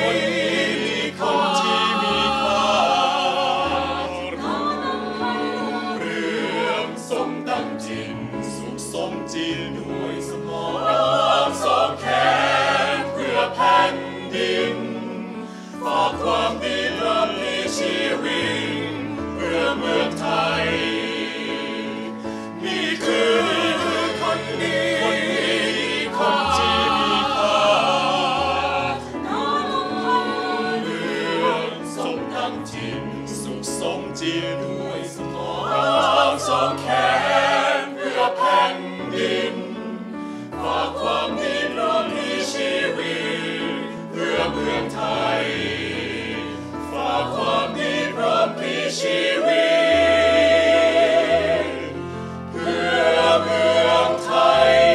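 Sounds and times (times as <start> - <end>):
mixed choir singing unaccompanied: 0.0 - 54.9.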